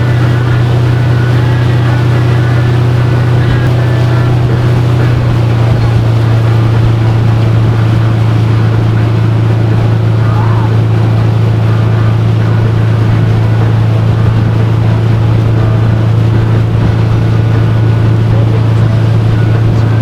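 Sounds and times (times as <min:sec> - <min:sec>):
motorboat engine droning: 0:00.0 - 0:20.0.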